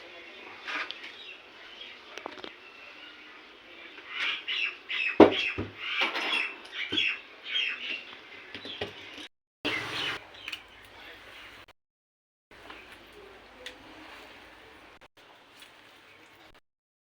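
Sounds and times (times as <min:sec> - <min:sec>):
birds calling: 0:00.0 - 0:11.7, 0:12.5 - 0:15.0.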